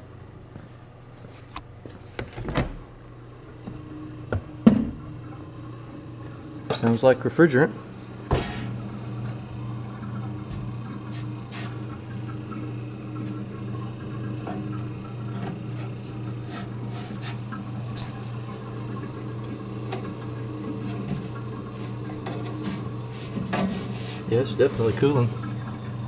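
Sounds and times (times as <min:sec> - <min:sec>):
refrigerator compressor humming: 0:00.0 - 0:26.0.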